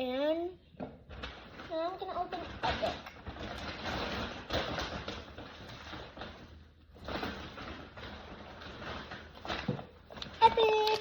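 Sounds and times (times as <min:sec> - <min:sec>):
packaging crinkling and tearing: 0:01.1 - 0:11.0.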